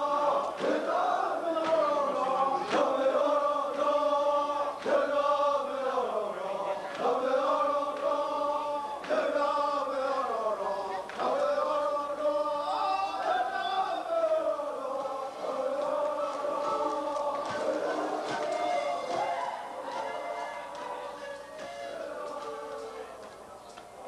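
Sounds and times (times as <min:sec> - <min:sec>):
group chanting in unison: 0:00.0 - 0:23.2.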